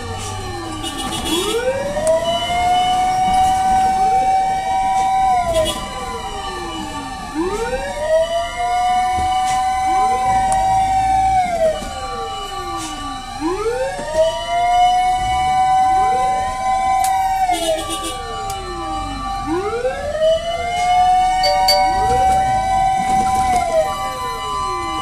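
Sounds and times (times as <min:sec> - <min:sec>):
fire truck sirens wailing: 0:00.0 - 0:25.0.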